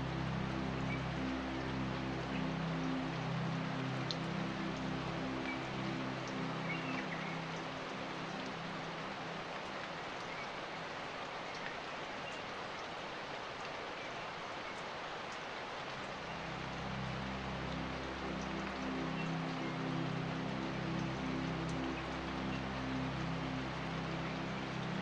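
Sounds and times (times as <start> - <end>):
low background music: 0.0 - 11.0, 15.8 - 25.0
steady rain: 0.0 - 25.0.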